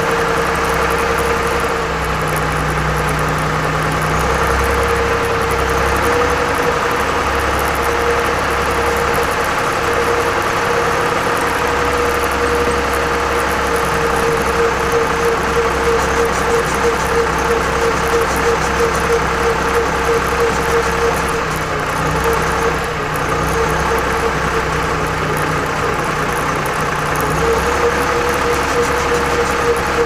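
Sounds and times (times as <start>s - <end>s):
steady whine: 0.0s - 30.0s
tractor diesel engine running: 0.0s - 30.0s.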